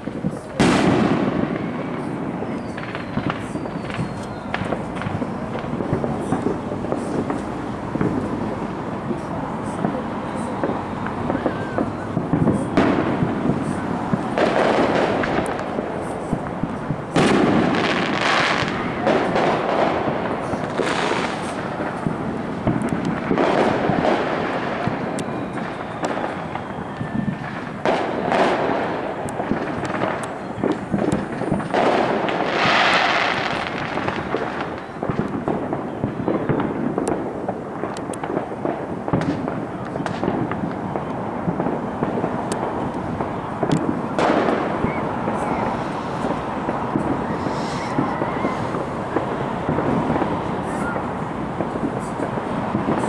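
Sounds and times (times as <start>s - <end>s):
fireworks bangs: 0.0s - 53.0s
fireworks crackling: 0.0s - 53.0s.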